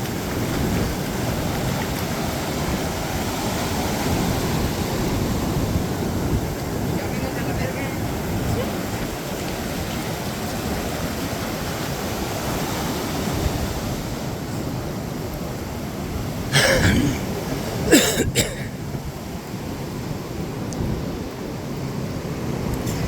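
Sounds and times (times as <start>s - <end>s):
ocean surf rushing: 0.0s - 23.0s
wind on microphone: 0.0s - 23.0s.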